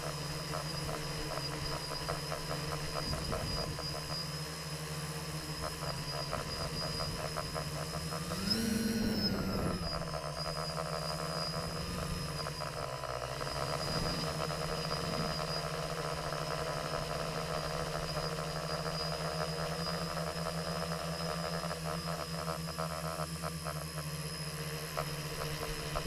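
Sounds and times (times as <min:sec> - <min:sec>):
drone motors humming and whining: 0:00.0 - 0:26.0.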